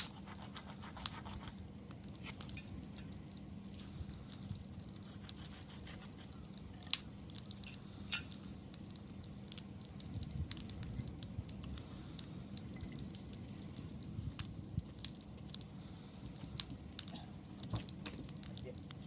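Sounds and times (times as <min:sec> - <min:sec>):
campfire crackling and popping: 0:00.0 - 0:19.0
low flutter of burning wood: 0:00.0 - 0:19.0.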